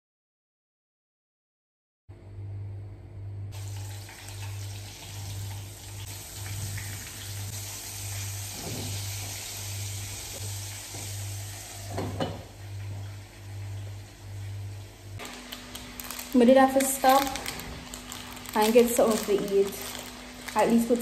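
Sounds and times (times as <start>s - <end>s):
chicken sizzling in hot oil: 3.5s - 21.0s.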